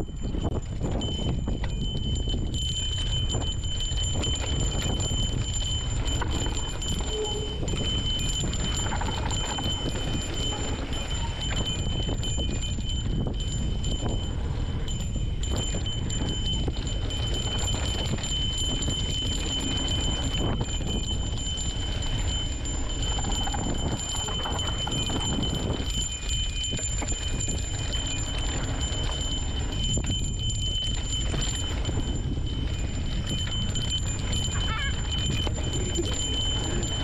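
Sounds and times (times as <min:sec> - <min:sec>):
bike chain and frame rattling: 0:00.0 - 0:37.0
wind rumbling on microphone: 0:00.0 - 0:37.0.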